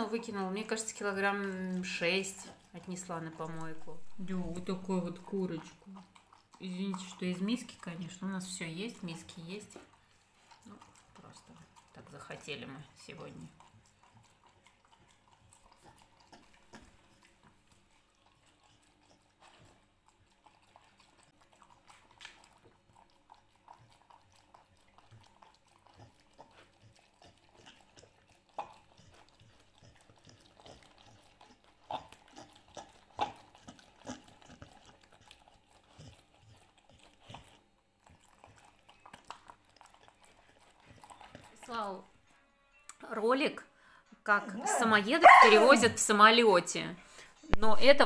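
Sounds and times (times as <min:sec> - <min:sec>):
dog chewing wet food: 0:00.0 - 0:42.2, 0:44.8 - 0:46.2.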